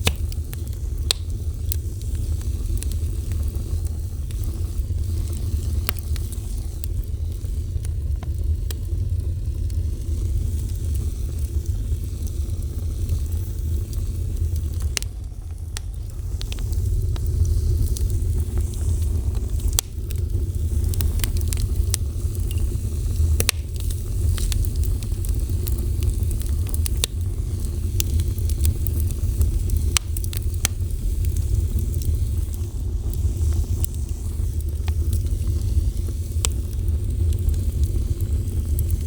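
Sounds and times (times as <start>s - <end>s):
burning wood crackling and popping: 0.0s - 39.0s
fire flames rumbling: 0.0s - 39.0s.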